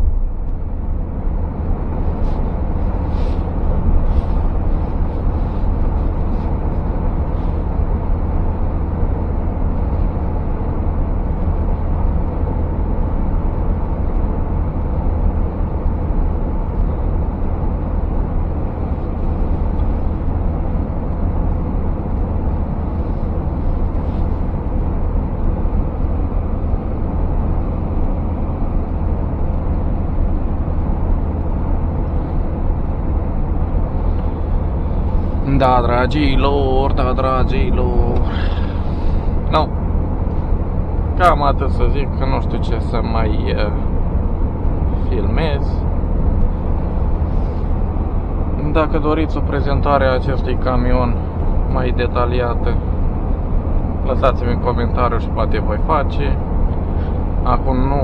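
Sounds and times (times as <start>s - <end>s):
truck engine hum: 0.0s - 58.0s
tyre and road noise: 0.0s - 58.0s.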